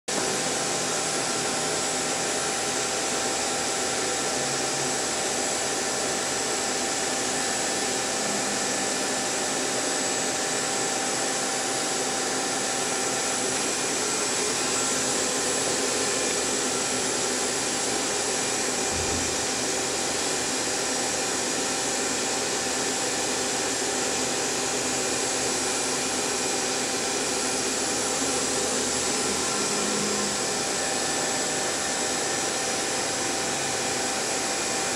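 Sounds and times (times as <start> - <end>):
machining center whirring: 0.1 - 34.9.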